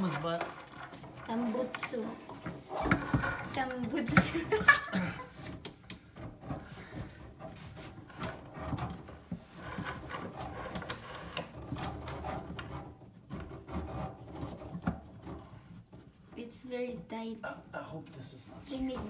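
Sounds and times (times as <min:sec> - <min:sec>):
knocks and scrapes in wooden cabinet: 0:00.0 - 0:17.4, 0:18.6 - 0:19.0.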